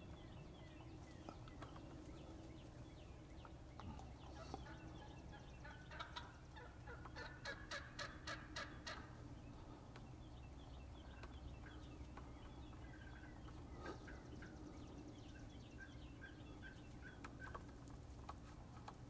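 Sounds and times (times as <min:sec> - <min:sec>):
wild turkey gobbling: 0:00.8 - 0:10.0, 0:11.0 - 0:19.0.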